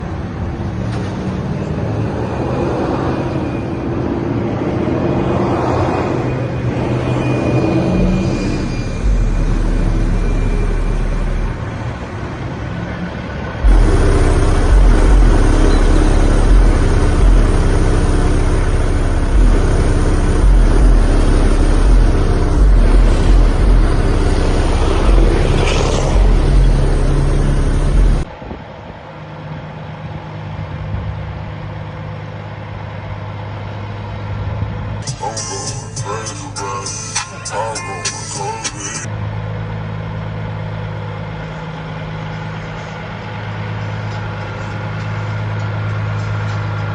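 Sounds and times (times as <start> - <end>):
truck deep pulsing rumble: 0.0 - 46.9.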